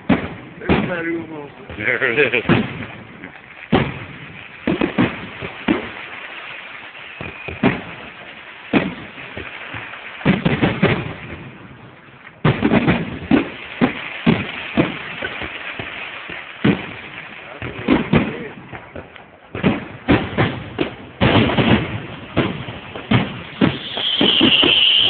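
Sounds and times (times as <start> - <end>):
fireworks bursting with sharp bangs: 0.0 - 25.0.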